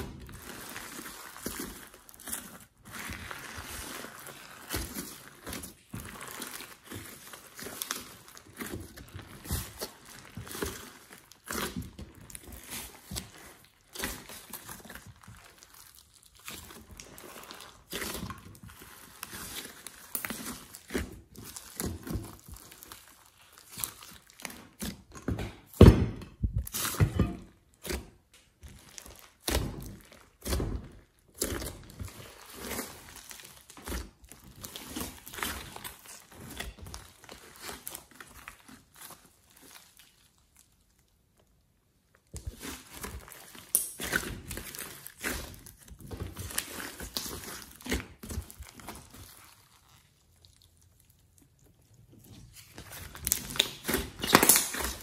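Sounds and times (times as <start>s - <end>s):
slime squishing: 0.0s - 55.0s.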